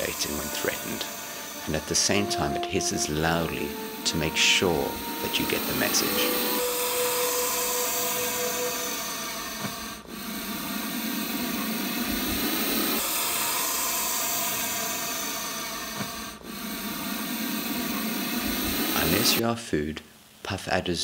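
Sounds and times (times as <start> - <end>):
snake hissing: 0.0 - 19.4.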